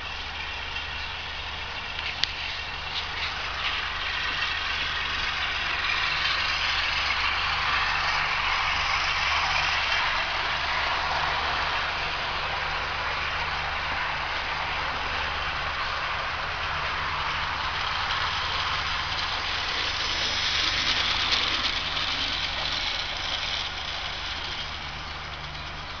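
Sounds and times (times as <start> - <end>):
model diesel engine hum: 0.0 - 26.0
model wheels rushing on track: 0.0 - 26.0.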